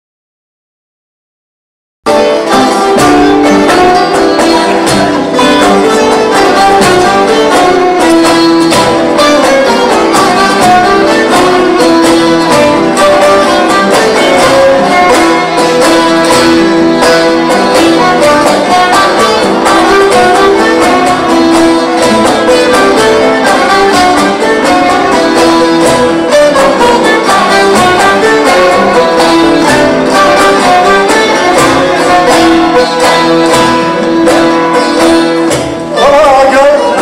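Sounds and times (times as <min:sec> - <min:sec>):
instrumental background music: 0:02.1 - 0:37.0.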